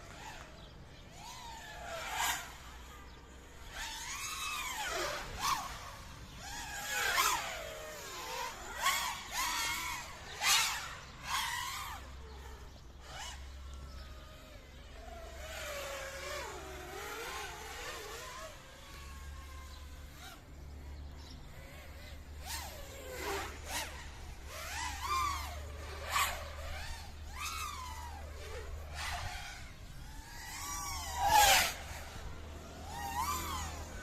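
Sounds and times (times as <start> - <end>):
drone motors whining: 0.0 - 34.0
steady low hum: 0.0 - 34.0.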